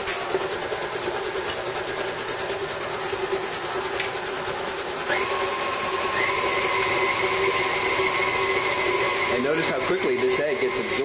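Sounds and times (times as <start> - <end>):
mixer whine: 0.0 - 11.0
stand mixer running: 0.0 - 11.0.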